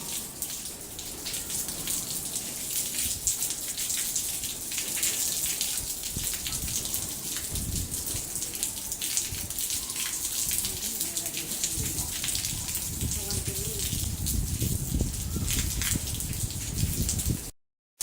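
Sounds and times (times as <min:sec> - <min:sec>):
heavy rain falling: 0:00.0 - 0:17.5
raindrops striking close by: 0:00.0 - 0:17.5.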